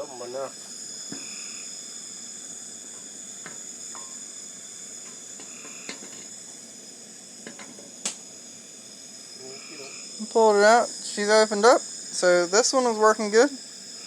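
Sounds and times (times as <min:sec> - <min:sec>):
boiling water hissing: 0:00.0 - 0:14.0.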